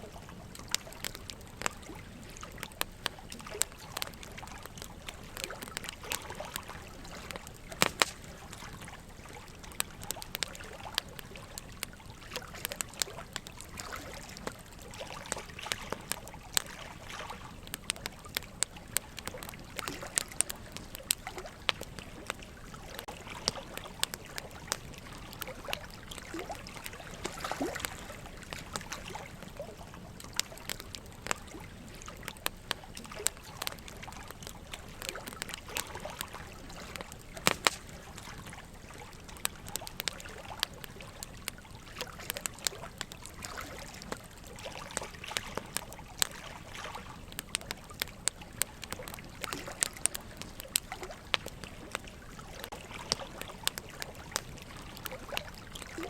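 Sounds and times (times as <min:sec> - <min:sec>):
fireplace logs crackling and popping: 0:00.0 - 0:56.0
running water trickle: 0:00.0 - 0:56.0.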